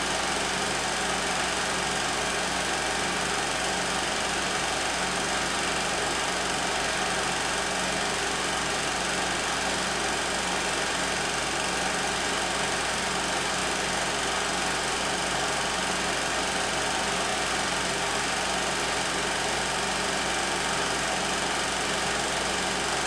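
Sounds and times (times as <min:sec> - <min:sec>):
film projector motor whirring: 0:00.1 - 0:23.0.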